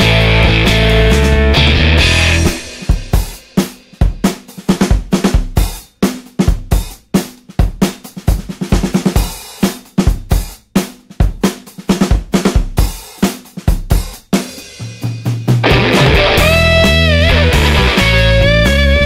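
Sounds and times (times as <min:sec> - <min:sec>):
drum-kit beat: 0:00.0 - 0:19.0.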